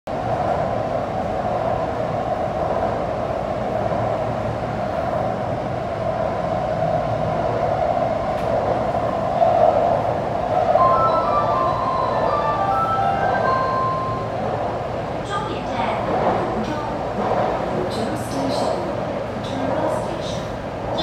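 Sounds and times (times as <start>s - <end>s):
underground train rumbling: 0.1s - 21.0s.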